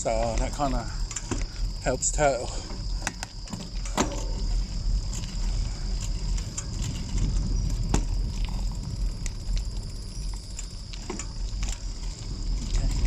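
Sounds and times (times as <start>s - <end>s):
bicycle tyre noise on wet road: 0.0s - 13.0s
sharp clicks and rattles: 0.0s - 13.0s
wind buffeting microphone: 0.0s - 13.0s.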